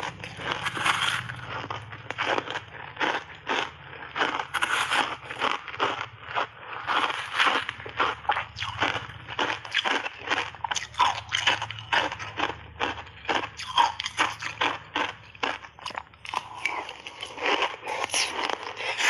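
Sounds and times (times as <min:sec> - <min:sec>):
ice crunching as chewed: 0:00.0 - 0:19.0.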